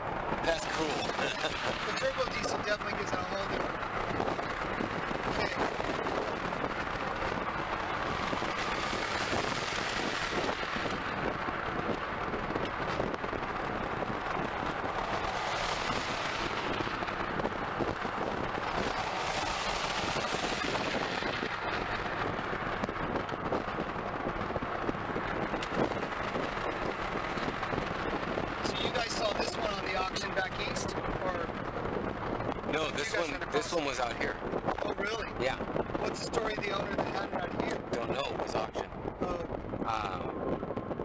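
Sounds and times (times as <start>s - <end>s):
car road and drivetrain noise: 0.0s - 41.0s.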